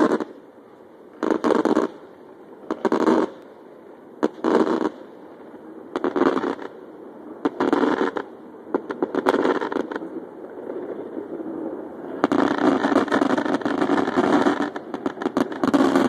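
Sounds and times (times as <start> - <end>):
fireworks booming: 0.0 - 0.5, 1.1 - 3.6, 4.2 - 16.0.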